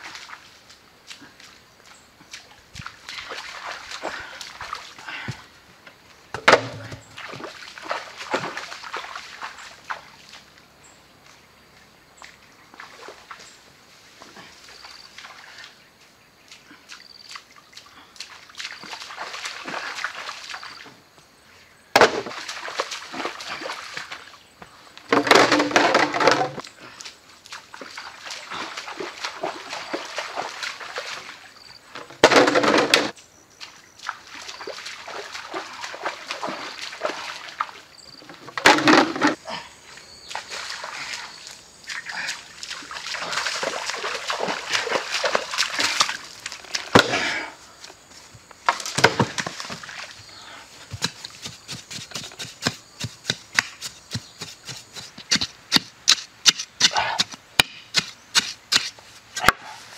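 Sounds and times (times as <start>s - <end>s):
feet splashing through stream: 0.0s - 21.0s, 22.0s - 56.0s.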